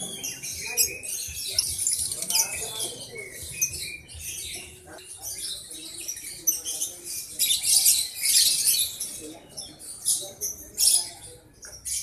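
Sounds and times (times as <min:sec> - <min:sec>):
lovebirds chattering: 0:00.0 - 0:12.0.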